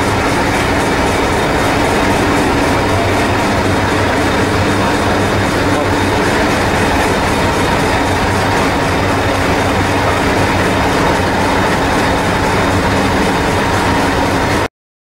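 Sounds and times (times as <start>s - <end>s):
train engine idling: 0.0s - 14.7s.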